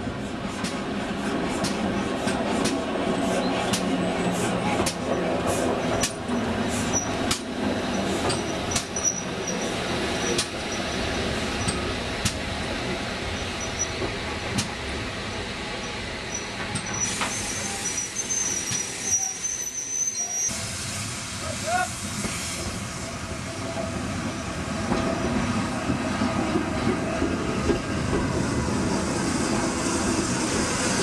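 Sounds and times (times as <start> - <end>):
steam locomotive running past: 0.0 - 31.0.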